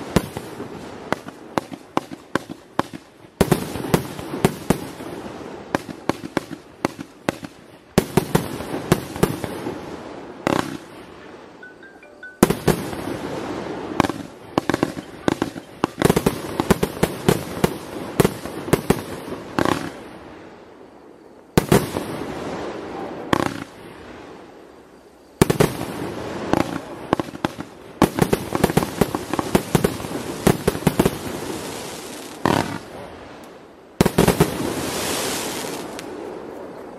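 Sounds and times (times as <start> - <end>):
fireworks bangs and crackle: 0.0 - 11.6, 12.4 - 24.8, 25.4 - 36.9.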